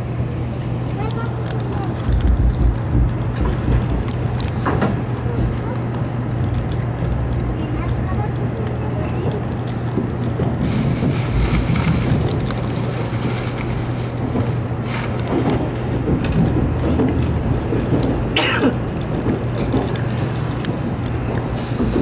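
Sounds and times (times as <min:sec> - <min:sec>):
train cabin rumble: 0:00.0 - 0:22.0.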